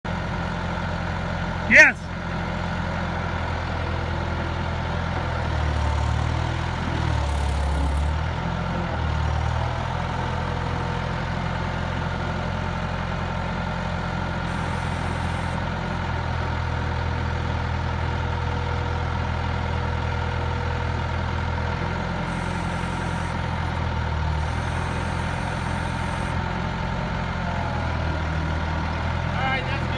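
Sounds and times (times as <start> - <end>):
diesel engine rumbling: 0.1 - 29.9.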